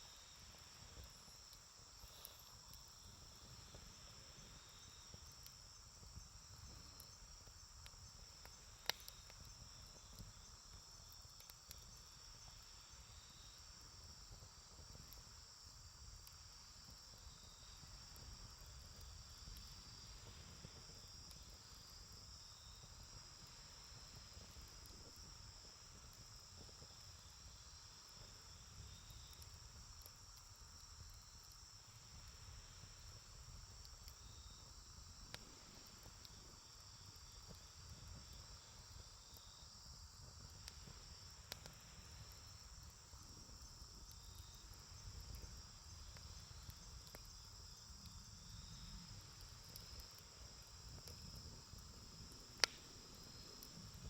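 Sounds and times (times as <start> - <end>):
insects chirring: 0.0 - 54.0
campfire pops: 0.4 - 54.0.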